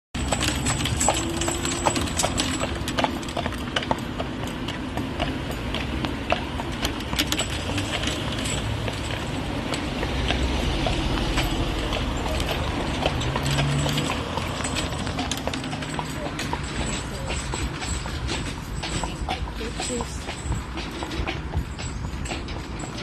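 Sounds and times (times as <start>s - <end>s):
hooves clip-clopping on asphalt: 0.2s - 23.0s.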